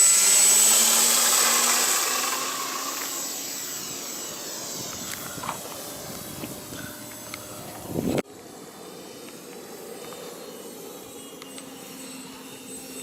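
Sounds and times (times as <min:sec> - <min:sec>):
model jet high whine: 0:00.0 - 0:13.0.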